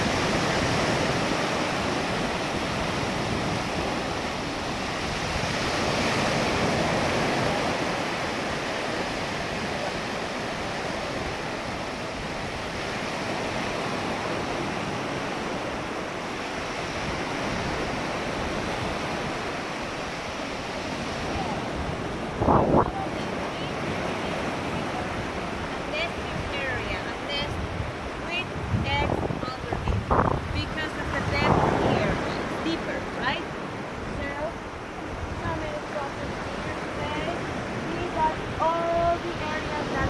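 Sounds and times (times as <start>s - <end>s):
ocean surf washing on beach: 0.0s - 40.0s.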